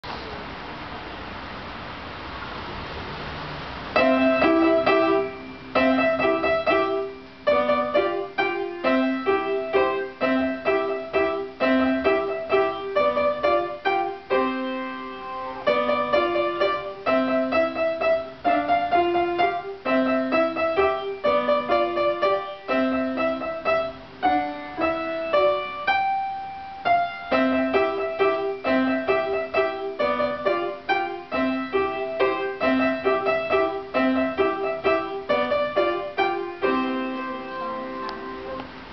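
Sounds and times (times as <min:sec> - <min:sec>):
upright piano playing: 0:03.9 - 0:38.9.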